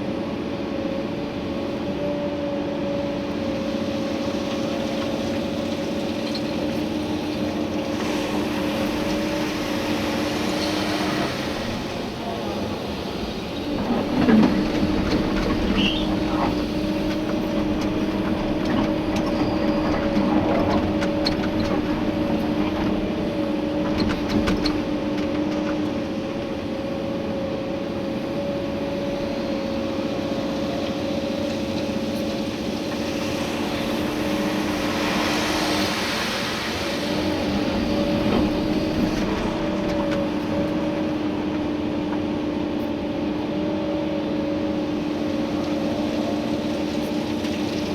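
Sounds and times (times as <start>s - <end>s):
excavator engine and hydraulics: 0.0s - 47.9s.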